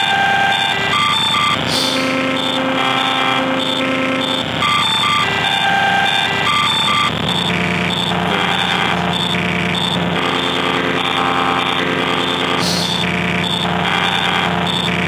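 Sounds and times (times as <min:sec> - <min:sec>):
harsh buzzy electronic tones: 0:00.0 - 0:15.0.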